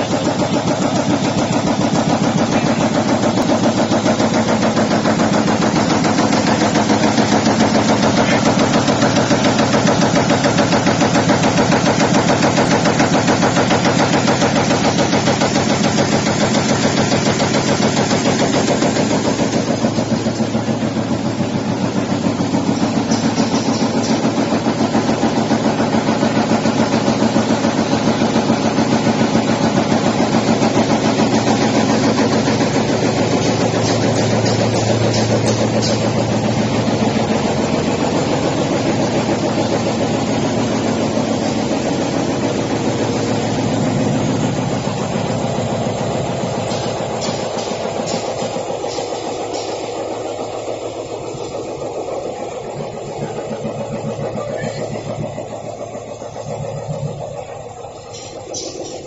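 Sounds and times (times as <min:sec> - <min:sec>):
drive motor hum: 0:00.0 - 0:59.0
machine blade chattering clacks: 0:00.0 - 0:59.0.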